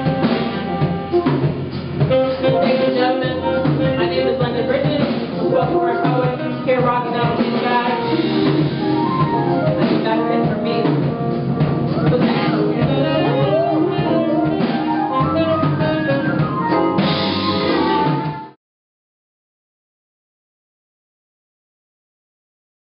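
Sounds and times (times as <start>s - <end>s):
guitar: 0.0s - 18.5s
drum kit: 0.0s - 18.6s
saxophones: 0.0s - 18.6s.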